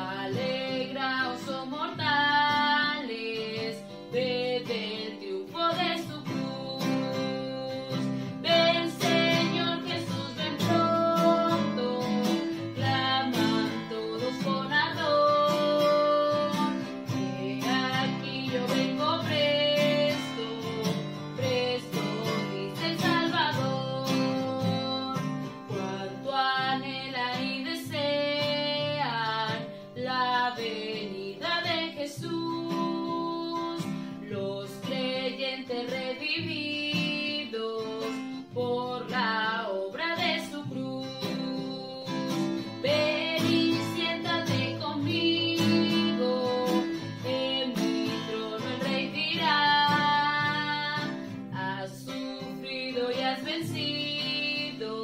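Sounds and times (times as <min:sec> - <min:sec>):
acoustic guitar chords: 0:00.0 - 0:55.0
woman singing a hymn: 0:00.0 - 0:55.0.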